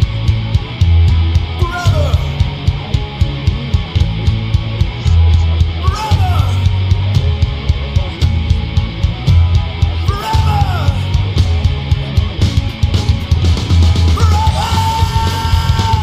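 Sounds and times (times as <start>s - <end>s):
rock music with distorted guitars: 0.0s - 16.0s.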